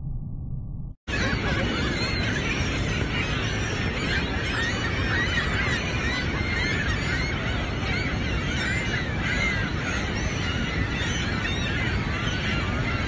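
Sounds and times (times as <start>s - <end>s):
gulls calling: 1.1s - 13.0s.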